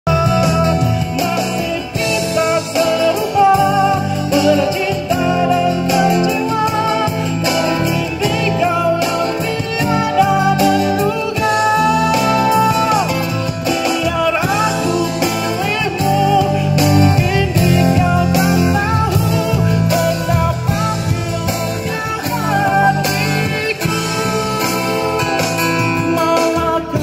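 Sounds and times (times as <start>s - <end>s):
man singing into microphone: 0.1s - 27.0s
strummed acoustic guitar: 0.1s - 27.0s.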